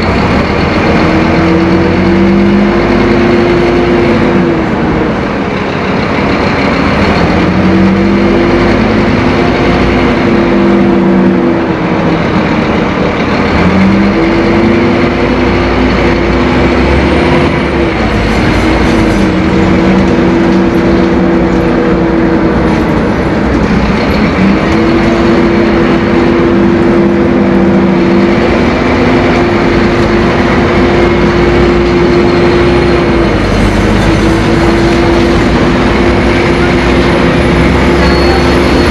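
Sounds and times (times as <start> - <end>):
bus engine running under load: 0.0 - 38.9.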